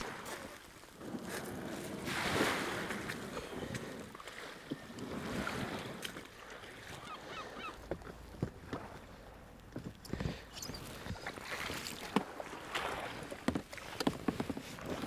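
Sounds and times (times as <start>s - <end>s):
paddle splashing and dripping: 0.0s - 15.0s.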